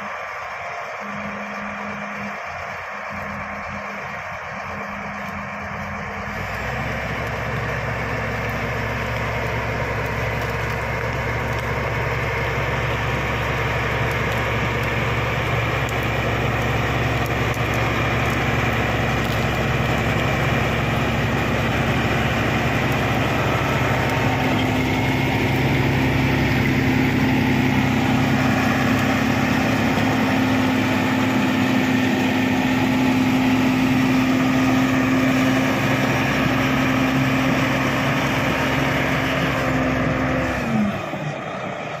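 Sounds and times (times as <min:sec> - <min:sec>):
bulldozer diesel engine running: 0:00.0 - 0:42.0
blade pushing brush and soil: 0:06.2 - 0:41.3.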